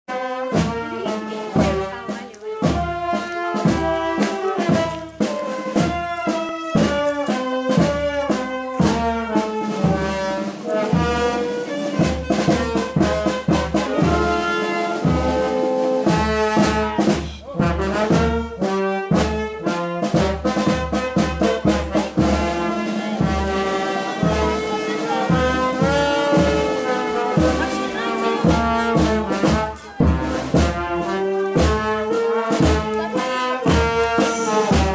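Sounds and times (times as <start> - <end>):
brass band playing march: 0.1 - 34.9.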